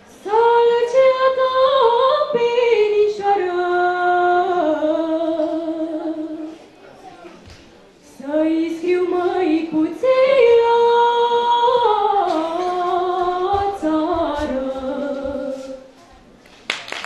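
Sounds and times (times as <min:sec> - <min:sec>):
girl singing into a microphone: 0:00.0 - 0:06.6, 0:08.1 - 0:16.0.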